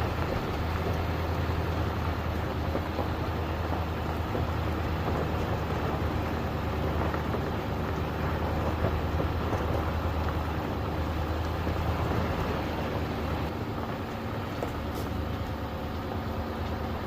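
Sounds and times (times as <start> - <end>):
large engine running: 0.0 - 17.0.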